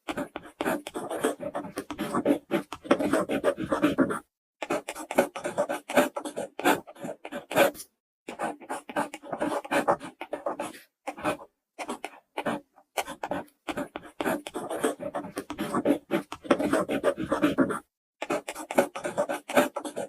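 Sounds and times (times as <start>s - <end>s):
pen scratching on paper: 0.0s - 20.0s.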